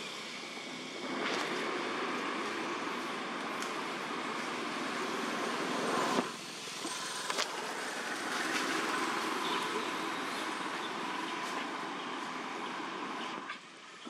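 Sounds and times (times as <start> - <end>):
outdoor hiss-like hum: 0.0 - 14.0.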